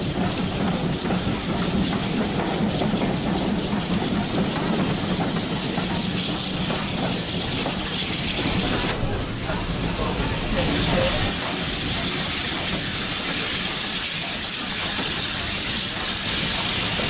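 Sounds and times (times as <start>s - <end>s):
fast regular train beat: 0.0s - 17.0s
train wheels rumbling: 0.0s - 17.0s.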